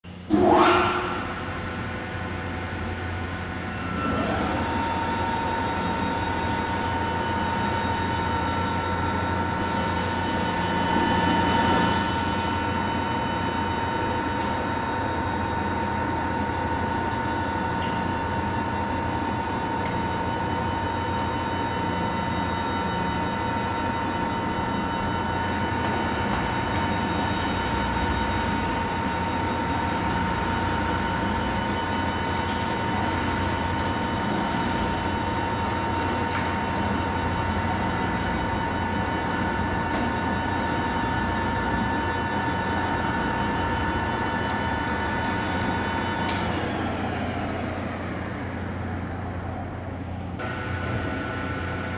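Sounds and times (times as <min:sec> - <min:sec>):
lathe mechanical hum: 0:00.0 - 0:22.9, 0:24.6 - 0:51.9.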